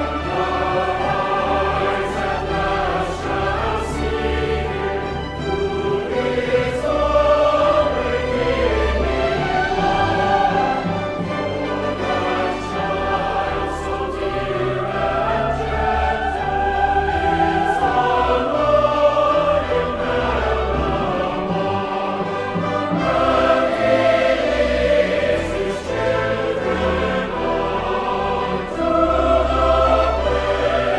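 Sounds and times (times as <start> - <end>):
choir singing: 0.0 - 30.9
orchestral accompaniment: 0.0 - 30.9.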